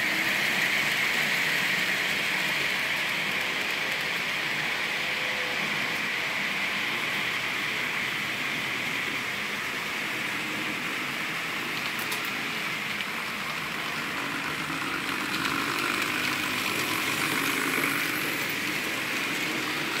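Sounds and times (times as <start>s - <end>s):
model train whirring on track: 0.0s - 20.0s.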